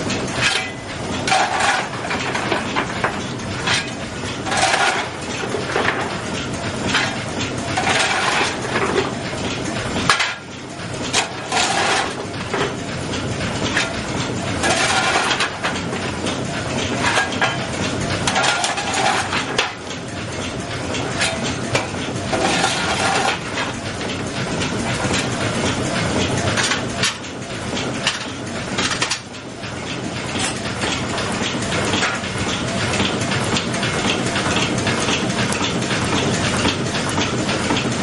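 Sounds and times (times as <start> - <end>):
steam engine clatter and hiss: 0.0 - 38.0.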